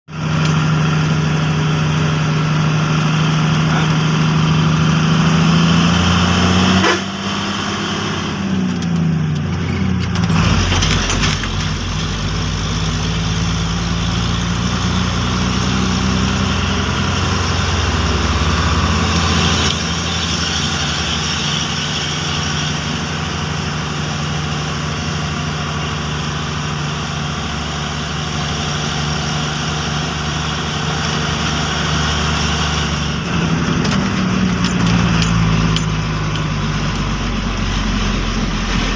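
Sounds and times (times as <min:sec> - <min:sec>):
truck engine from cab: 0:00.1 - 0:38.9.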